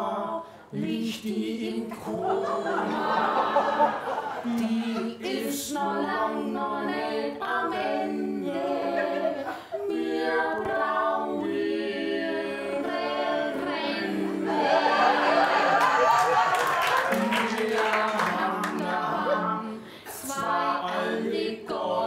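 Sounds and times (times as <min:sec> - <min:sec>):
people singing in harmony: 0:00.0 - 0:22.0.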